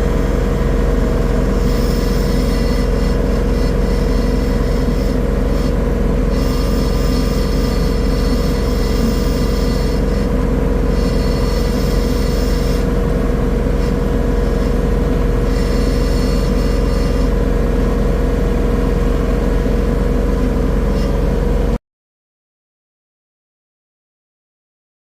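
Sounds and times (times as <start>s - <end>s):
motor drone: 0.0s - 21.8s.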